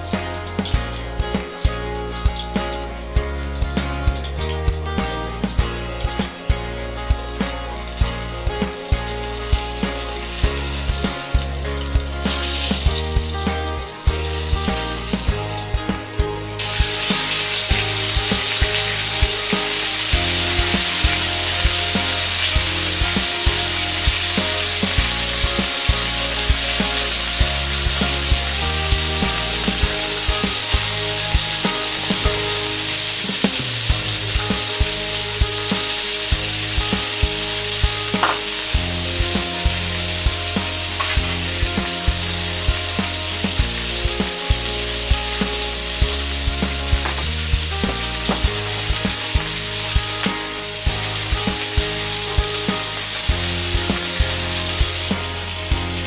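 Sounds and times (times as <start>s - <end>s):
background music with a beat: 0.0s - 56.0s
meat sizzling in a wok: 0.0s - 56.0s.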